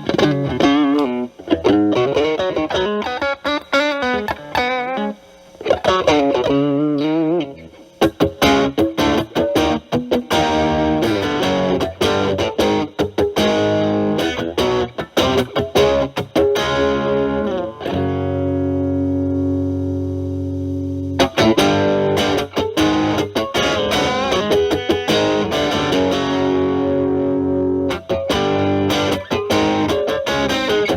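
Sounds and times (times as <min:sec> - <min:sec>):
distorted electric guitar: 0:00.0 - 0:30.9.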